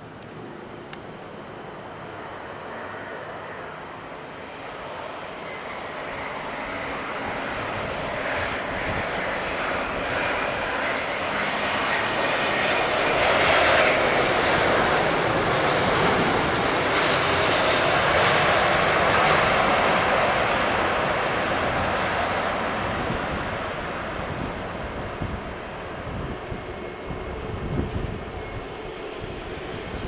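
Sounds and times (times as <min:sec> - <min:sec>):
jet airliner passing low: 0:00.0 - 0:30.0.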